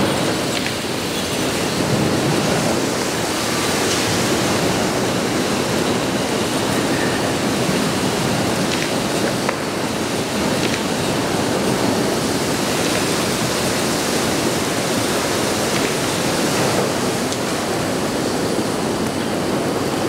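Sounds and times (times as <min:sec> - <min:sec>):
fire rushing: 0:00.0 - 0:20.0.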